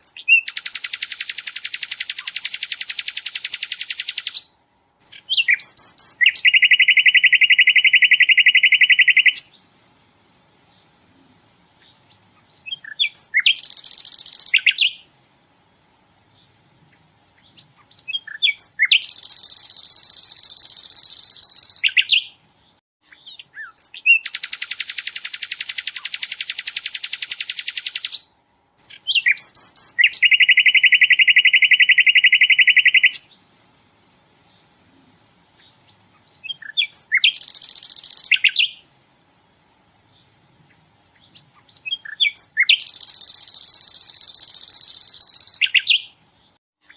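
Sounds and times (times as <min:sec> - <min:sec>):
short bird chirps: 0:00.0 - 0:09.6, 0:11.8 - 0:15.1, 0:17.4 - 0:33.4, 0:35.6 - 0:38.9, 0:41.2 - 0:46.9
songbird fast buzzy trills: 0:00.0 - 0:09.7, 0:11.8 - 0:22.4, 0:23.0 - 0:33.4, 0:35.5 - 0:39.0, 0:40.0 - 0:46.9.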